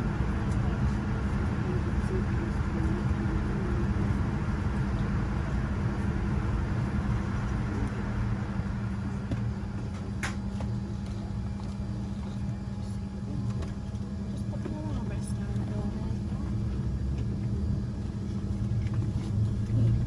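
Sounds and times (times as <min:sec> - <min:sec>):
airliner cabin hum: 0:00.0 - 0:20.0.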